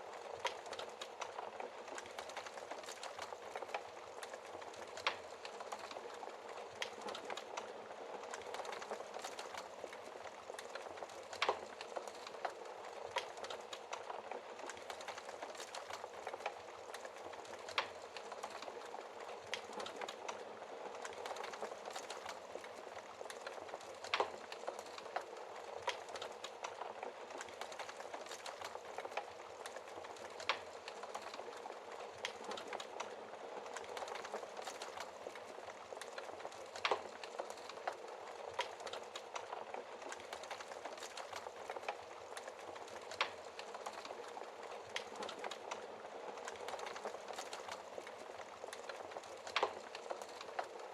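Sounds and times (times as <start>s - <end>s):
burning logs crackling: 0.0s - 50.9s.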